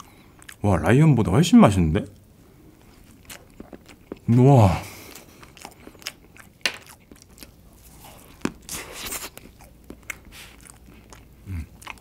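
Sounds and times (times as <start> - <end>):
person chewing close up: 0.0 - 0.6, 2.0 - 12.0.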